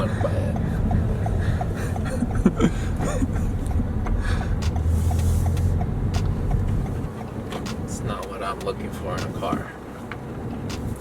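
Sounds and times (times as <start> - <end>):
car interior road rumble: 0.0 - 11.0
faint regular ticking: 0.0 - 11.0.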